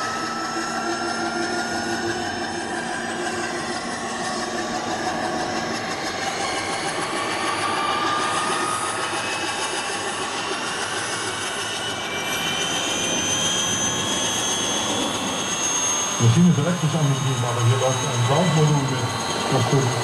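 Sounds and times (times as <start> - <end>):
model helicopter whine spinning up: 0.0 - 20.0.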